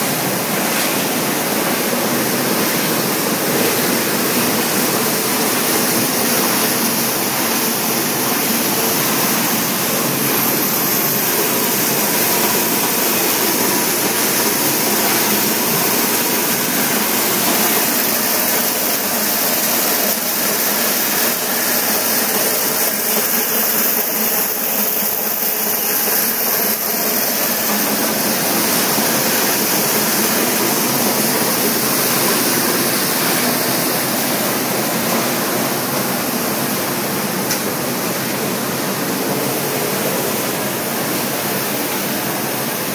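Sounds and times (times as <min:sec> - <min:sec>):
granulator machine running: 0:00.0 - 0:42.9.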